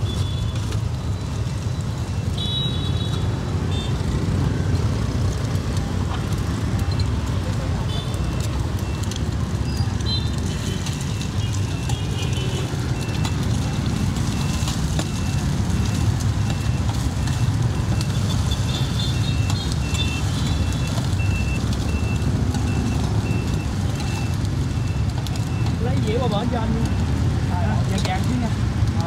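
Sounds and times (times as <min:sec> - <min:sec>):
street traffic rumble: 0:00.0 - 0:29.0
food sizzling on griddle: 0:03.2 - 0:29.0.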